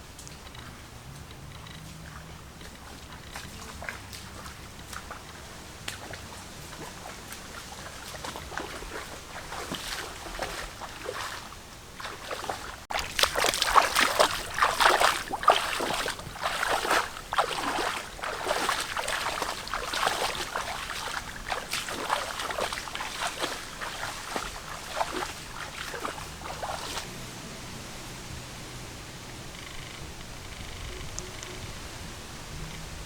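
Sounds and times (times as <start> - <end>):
water splashing and sloshing: 0.0 - 33.0.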